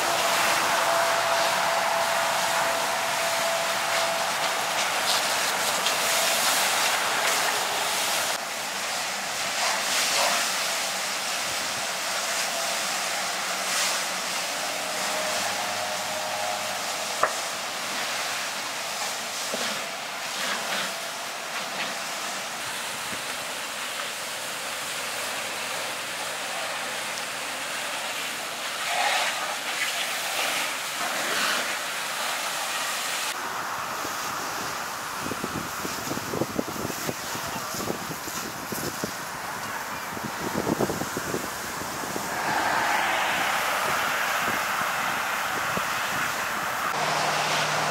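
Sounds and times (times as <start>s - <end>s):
fire hissing and rushing: 0.0s - 47.9s.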